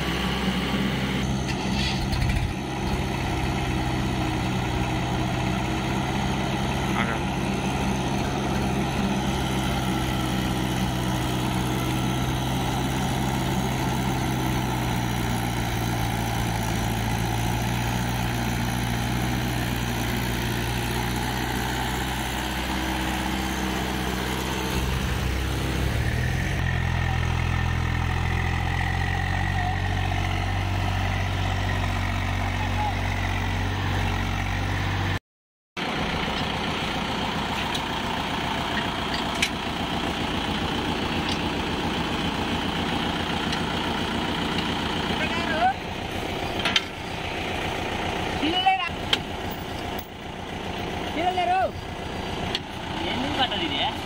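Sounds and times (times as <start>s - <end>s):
tractor diesel engine under load: 0.0s - 35.2s, 35.8s - 54.0s.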